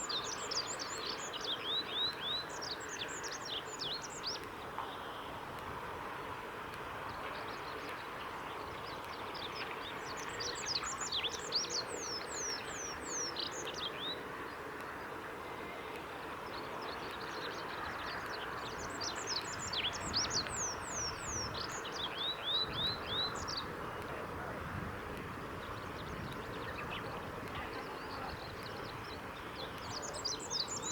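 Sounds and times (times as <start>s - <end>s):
bird song: 0.0s - 5.3s, 7.2s - 30.9s.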